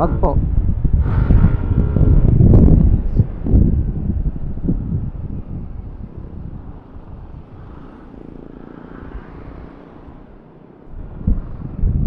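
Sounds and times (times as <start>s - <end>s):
low wind rumble: 0.0s - 12.0s
road noise: 0.0s - 12.0s
scooter engine accelerating: 0.6s - 12.0s.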